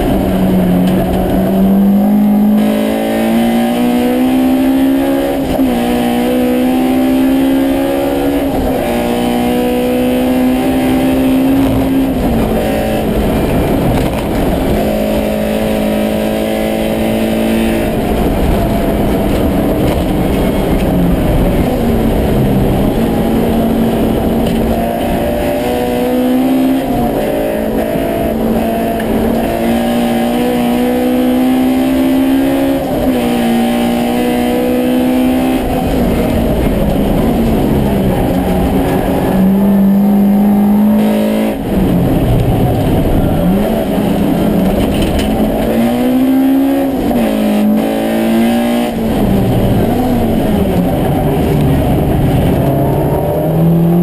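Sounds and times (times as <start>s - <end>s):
race car engine running hard: 0.0s - 54.0s
road and wind noise: 0.0s - 54.0s.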